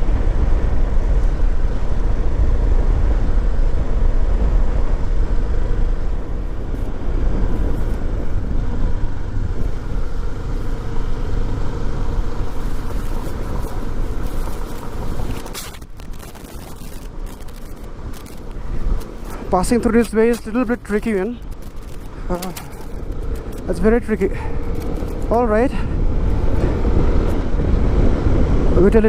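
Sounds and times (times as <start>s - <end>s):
wind rumble on microphone: 0.0s - 29.0s
motorcycle engine running: 0.2s - 27.8s.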